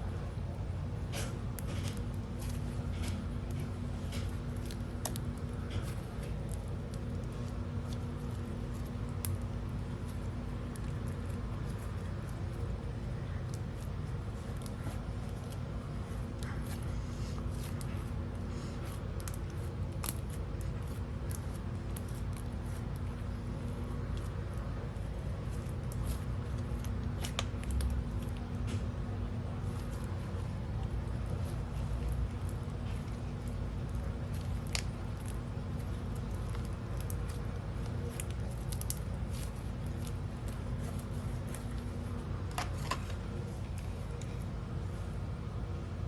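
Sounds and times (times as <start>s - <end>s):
slime squished by hand: 0.2s - 44.9s
small clicks and crackles: 1.0s - 44.5s.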